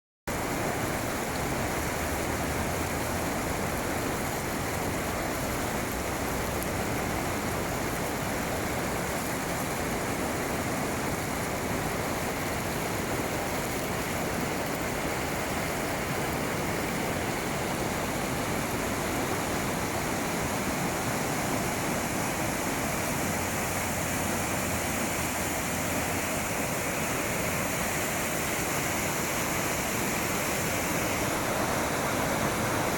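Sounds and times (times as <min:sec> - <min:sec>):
flowing water rushing: 0:00.3 - 0:32.9.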